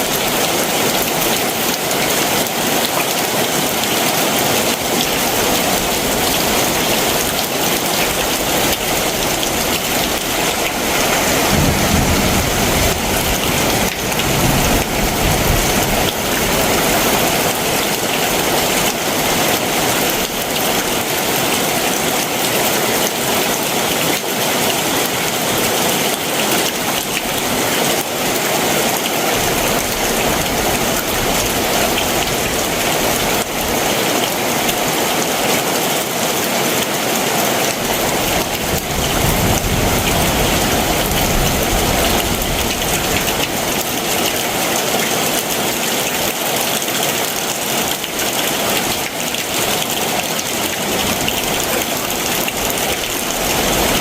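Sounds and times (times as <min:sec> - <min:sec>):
heavy rain hissing: 0:03.3 - 0:35.6, 0:37.8 - 0:46.7, 0:47.4 - 0:54.0.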